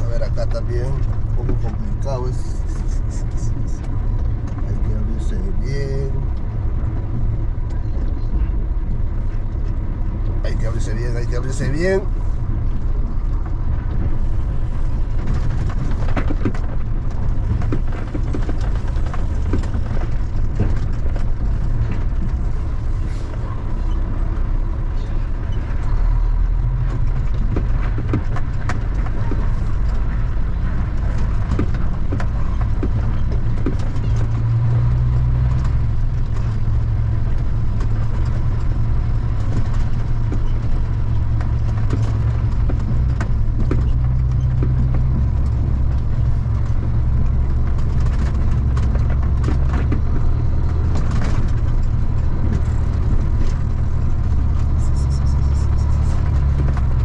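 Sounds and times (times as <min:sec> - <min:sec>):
heavy truck engine running: 0:00.0 - 0:57.0
truck knocks and rattles: 0:00.0 - 0:57.0.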